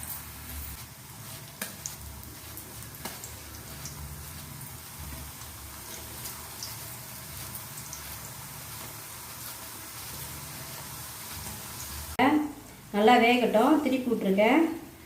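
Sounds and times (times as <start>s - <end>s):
chips frying in oil: 0.0s - 14.4s.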